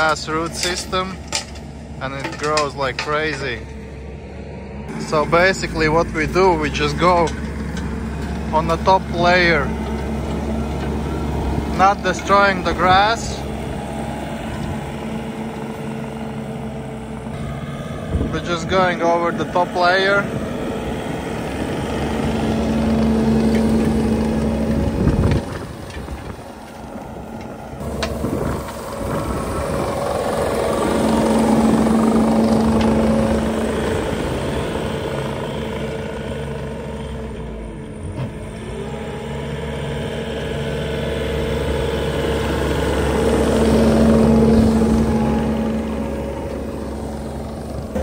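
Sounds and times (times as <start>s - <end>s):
loader engine and hydraulics whining: 0.0s - 48.0s.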